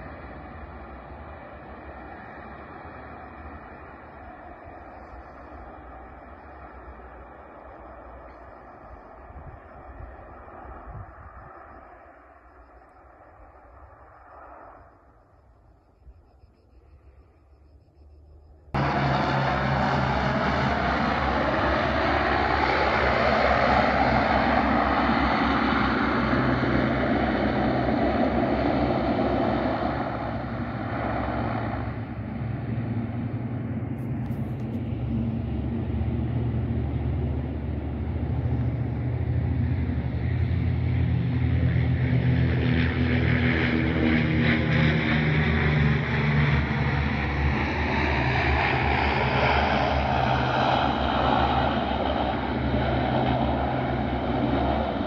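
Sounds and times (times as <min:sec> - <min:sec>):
propeller plane droning overhead: 0:00.0 - 0:55.0.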